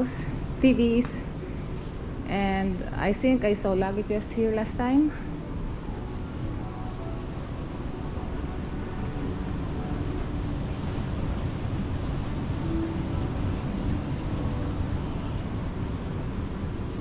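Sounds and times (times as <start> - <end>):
faint hiss: 0.0 - 17.0
steady low rumble: 0.0 - 17.0.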